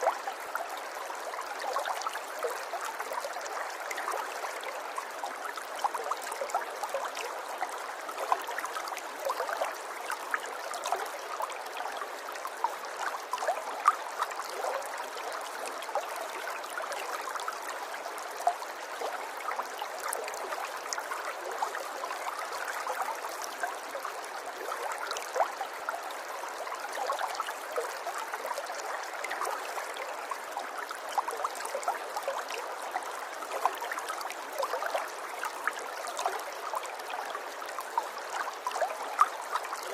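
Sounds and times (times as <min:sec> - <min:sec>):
stream babbling over stones: 0:00.0 - 0:39.9
water splashes and trickles: 0:00.0 - 0:39.9.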